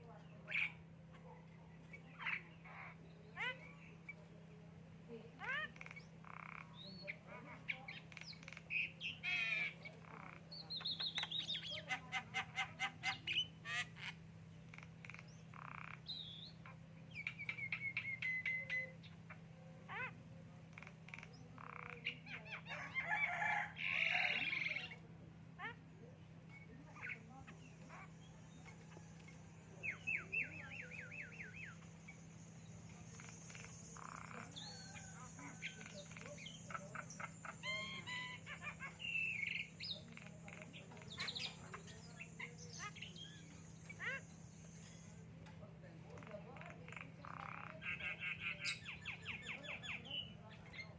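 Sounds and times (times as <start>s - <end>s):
low steady hum: 0.0s - 50.9s
bird harsh chattering: 0.4s - 1.2s, 1.9s - 4.2s, 5.3s - 25.0s, 25.6s - 50.9s.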